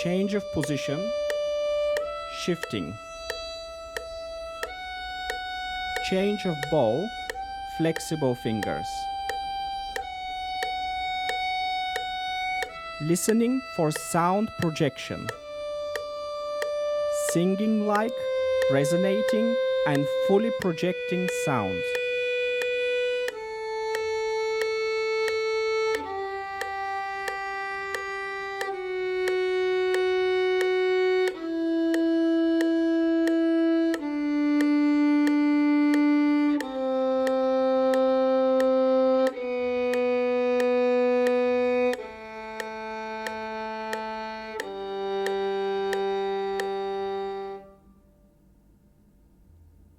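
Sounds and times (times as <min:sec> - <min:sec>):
violin playing descending scale: 0:00.0 - 0:47.8.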